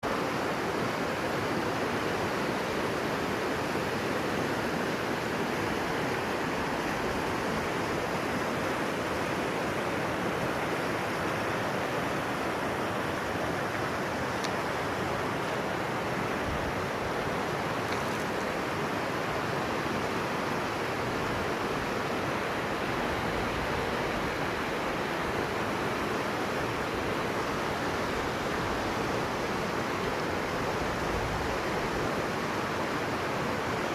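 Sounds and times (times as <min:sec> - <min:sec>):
river rushing: 0:00.0 - 0:33.9.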